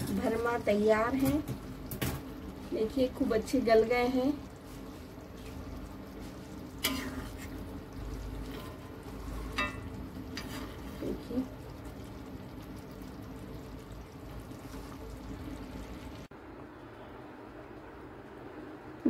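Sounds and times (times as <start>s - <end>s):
steady hiss and hum: 0.0s - 19.0s.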